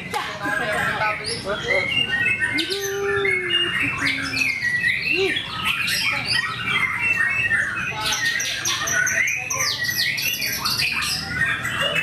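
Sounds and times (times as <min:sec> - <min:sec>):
birds singing chirps and trills: 0:00.0 - 0:12.0
low drawn-out bird whistles: 0:00.8 - 0:12.0.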